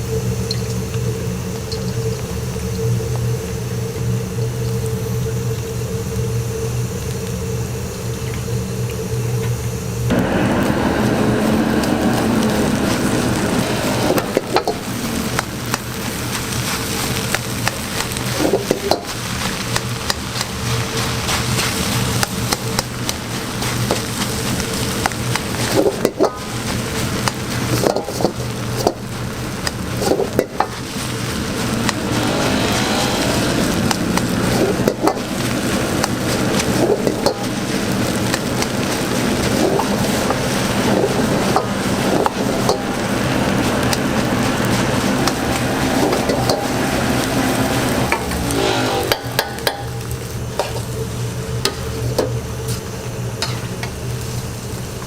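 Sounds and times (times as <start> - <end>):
rice sizzling in a wok: 0.0 - 55.0.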